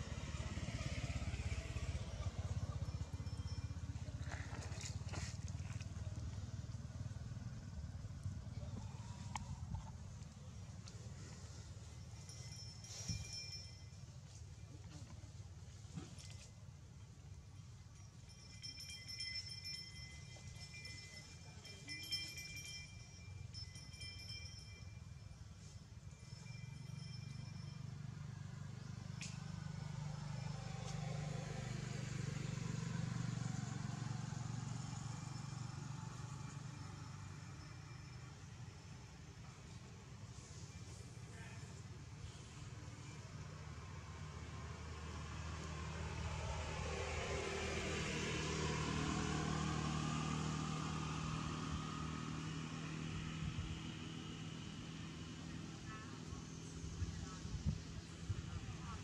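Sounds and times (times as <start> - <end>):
vehicle engine hum: 0.0 - 59.0.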